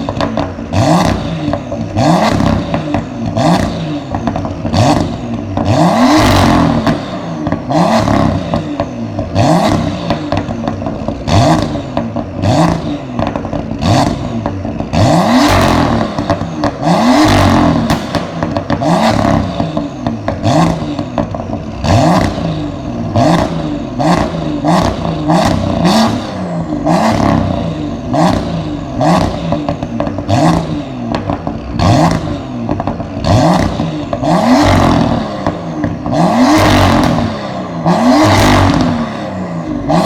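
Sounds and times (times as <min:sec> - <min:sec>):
car engine revving: 0:00.0 - 0:40.0
exhaust crackling: 0:00.0 - 0:40.0.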